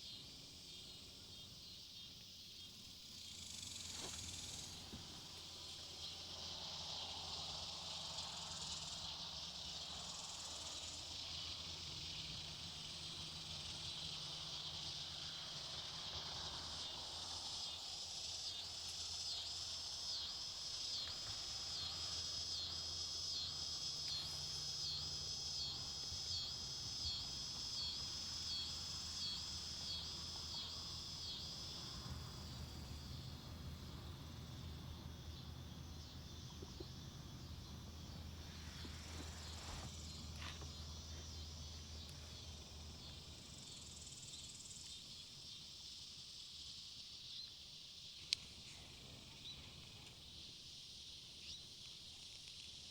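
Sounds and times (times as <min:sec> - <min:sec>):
high pulsing insect call: 0:00.0 - 0:52.9
insects chirring: 0:00.0 - 0:52.9.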